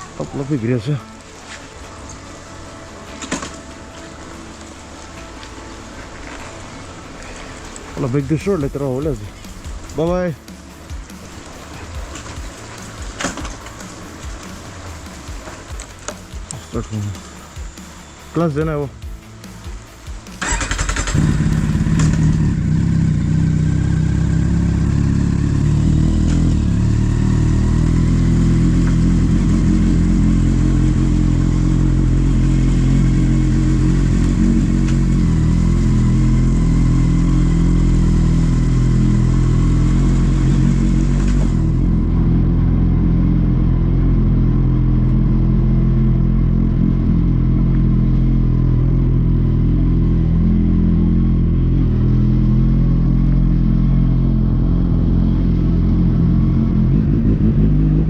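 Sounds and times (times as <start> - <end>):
motorcycle engine running: 6.0 - 58.0.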